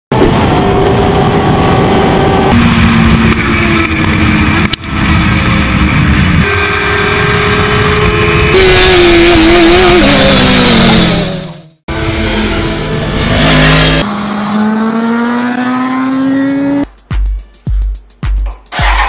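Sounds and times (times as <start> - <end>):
motorcycle engines at speed: 0.2 - 16.9.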